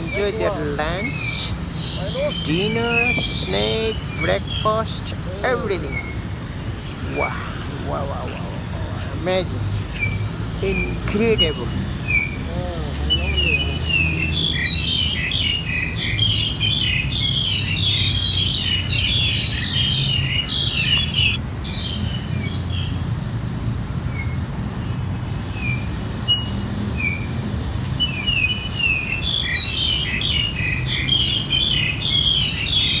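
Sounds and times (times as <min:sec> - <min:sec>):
small birds chirping: 0:00.0 - 0:23.4, 0:24.0 - 0:33.0.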